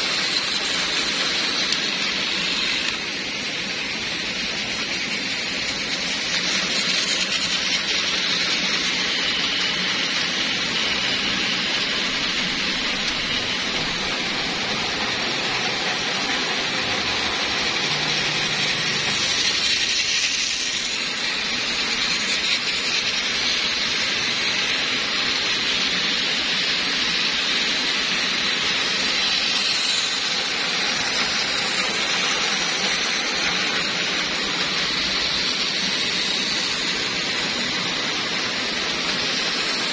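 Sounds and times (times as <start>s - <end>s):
toy train motors whirring: 0.0s - 39.9s
wheels rattling over track joints: 0.0s - 39.9s.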